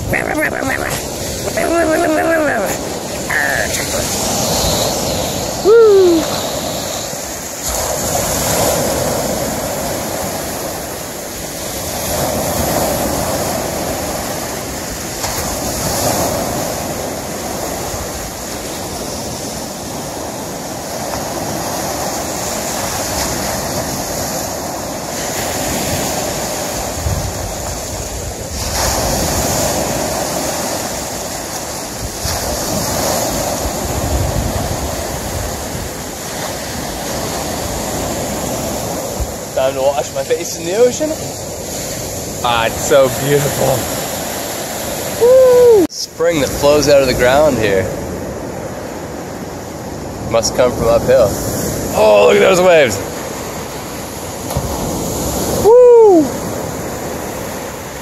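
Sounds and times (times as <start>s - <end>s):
surf on cobble beach: 0.0s - 58.0s.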